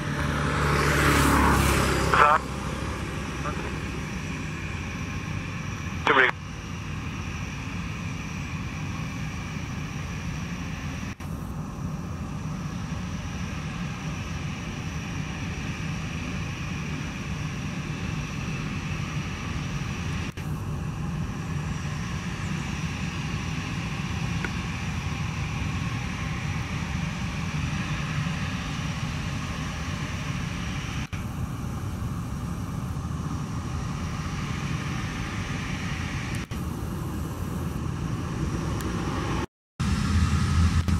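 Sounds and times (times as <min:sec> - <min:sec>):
jet engines whining and rumbling: 0:00.0 - 0:40.9.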